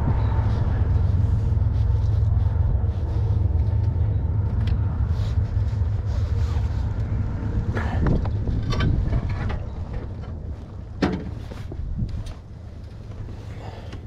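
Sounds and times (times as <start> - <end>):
wind noise: 0.0 - 13.4
motorcycle engine rumble: 0.0 - 14.0.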